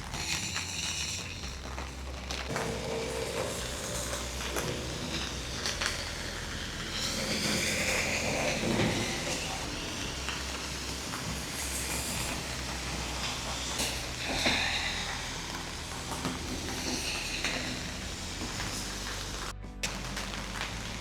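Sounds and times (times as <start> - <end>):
hissing swell: 0.0 - 21.0
low vehicle rumble: 0.0 - 21.0.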